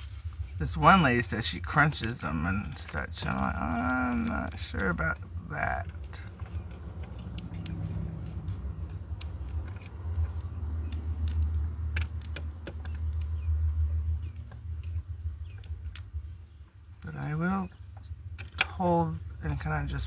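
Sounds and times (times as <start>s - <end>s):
steady low rumble: 0.0s - 20.0s
eggshell clicks and crackles: 0.2s - 20.0s.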